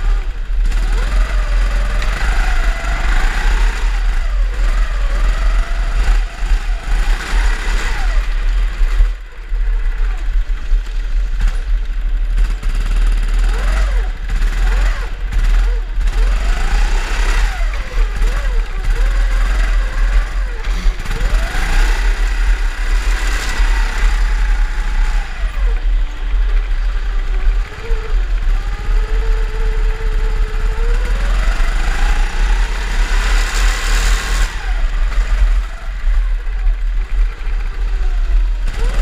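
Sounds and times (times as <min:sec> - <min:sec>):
kart engine revving: 0:00.0 - 0:39.0.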